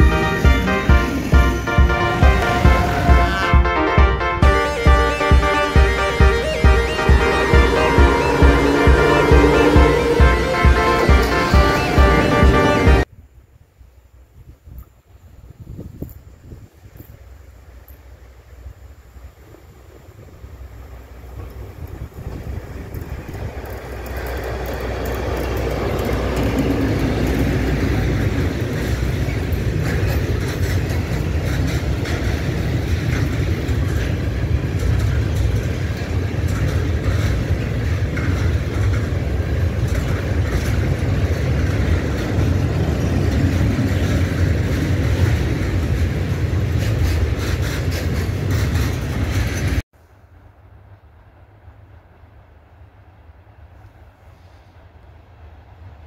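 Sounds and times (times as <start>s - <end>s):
freight train wheels rumbling: 0.0s - 13.1s, 14.9s - 56.0s.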